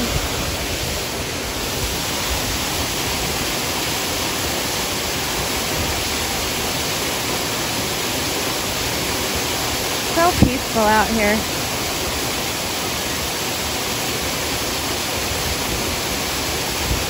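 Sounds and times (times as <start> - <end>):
waterfall pouring into pool: 0.0 - 17.0.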